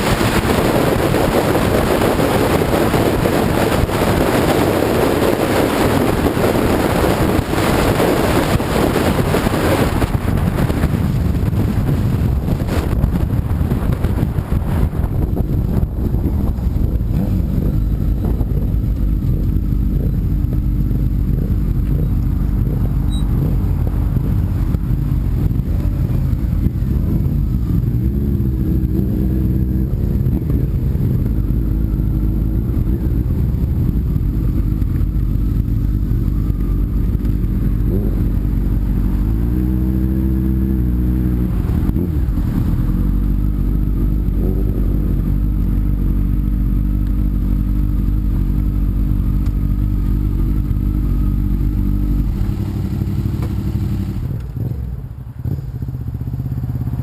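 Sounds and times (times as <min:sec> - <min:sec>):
motorcycle engine revving: 0:00.0 - 0:57.0
wind rumble on microphone: 0:00.0 - 0:57.0.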